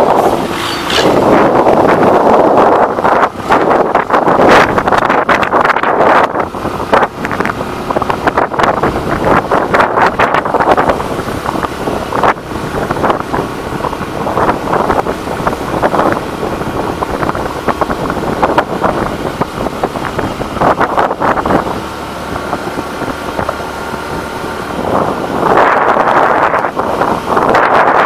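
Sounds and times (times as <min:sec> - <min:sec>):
motorcycle engine running: 0:00.0 - 0:28.0
wind buffeting microphone: 0:00.0 - 0:28.0.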